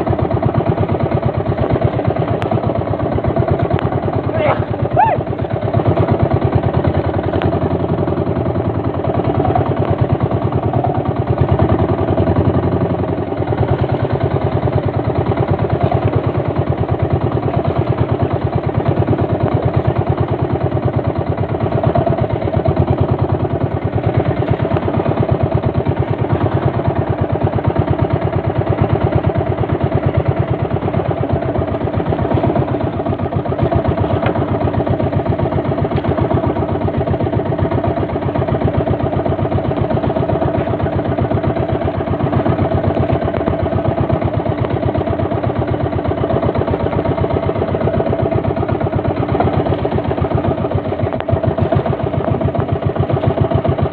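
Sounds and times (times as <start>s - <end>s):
boat engine chugging: 0.0s - 53.9s.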